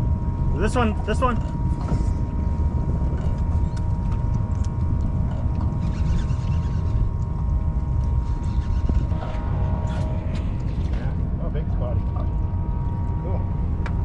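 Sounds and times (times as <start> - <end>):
faint steady hum: 0.0 - 14.0
wind and water rumble: 0.0 - 14.0.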